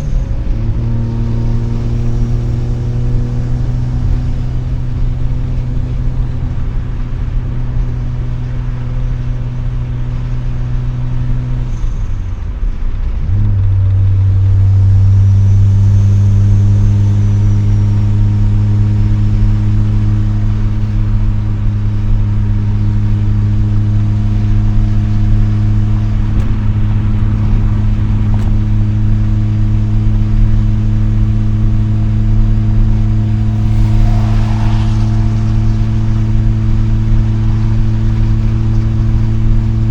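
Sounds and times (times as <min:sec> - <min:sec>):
rotary engine exhaust drone: 0:00.0 - 0:39.9.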